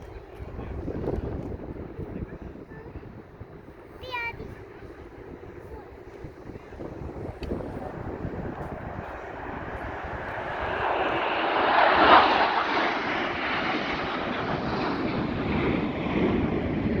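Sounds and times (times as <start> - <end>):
airplane flying past: 0.0 - 17.0.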